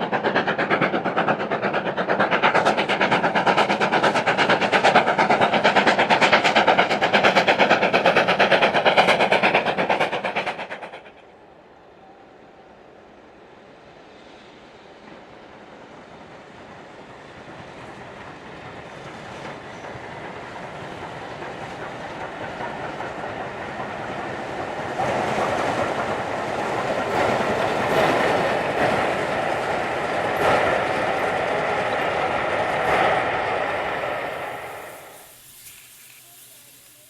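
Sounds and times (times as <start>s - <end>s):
train wheels clicking on rail joints: 0.0s - 11.4s, 14.6s - 37.0s
train passing: 0.0s - 37.0s.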